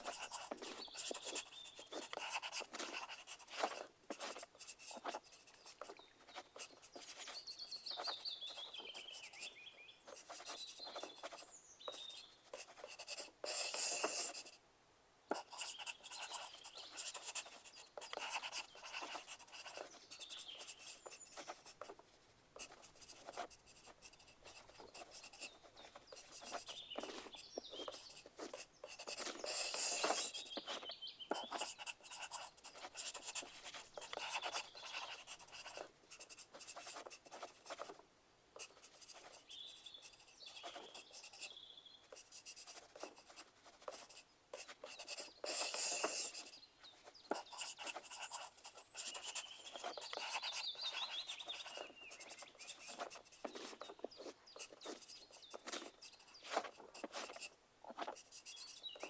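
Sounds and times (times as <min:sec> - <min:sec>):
pencil writing on paper: 0:00.0 - 0:14.6, 0:15.3 - 0:22.0, 0:22.6 - 0:38.0, 0:38.6 - 0:59.0.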